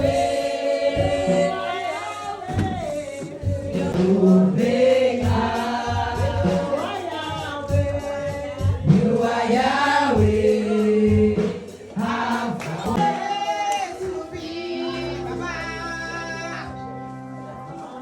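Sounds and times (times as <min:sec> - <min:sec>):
backing music with bass line: 0:00.0 - 0:13.2, 0:14.0 - 0:18.0
gospel choir singing: 0:00.0 - 0:18.0.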